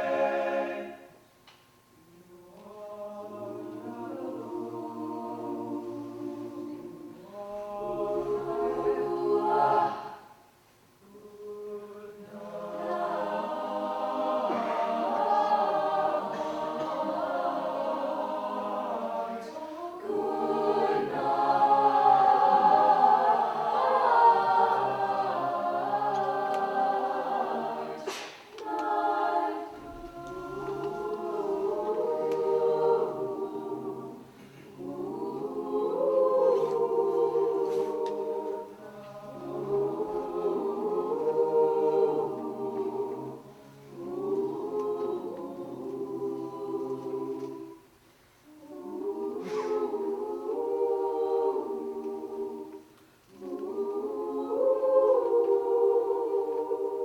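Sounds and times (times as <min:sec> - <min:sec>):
vocal group singing in harmony: 0:00.0 - 0:57.0.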